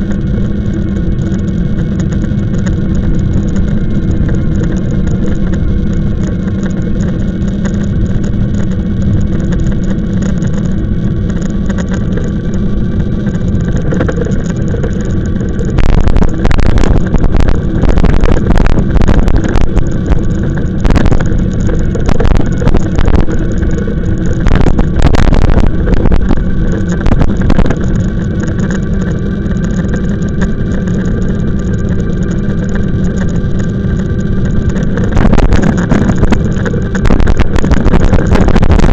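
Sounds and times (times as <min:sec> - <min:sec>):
e-bike low rumble with whine: 0:00.0 - 0:38.9
wind buffeting microphone: 0:00.0 - 0:38.9.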